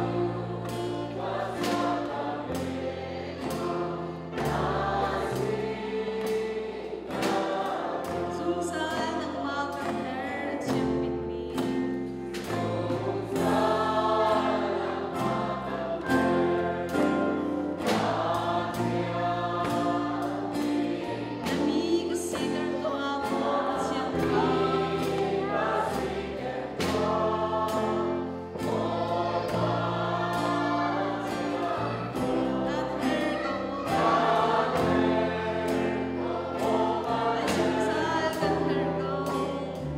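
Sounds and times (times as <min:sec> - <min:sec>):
voices singing together: 0:00.0 - 0:39.9.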